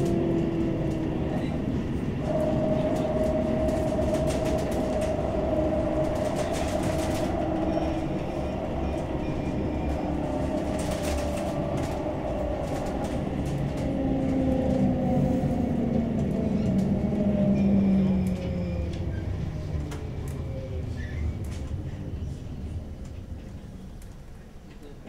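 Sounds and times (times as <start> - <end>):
wheels clattering on track: 0.0 - 24.9
tram electric whine: 0.0 - 25.0
wheels rumbling: 0.0 - 25.0.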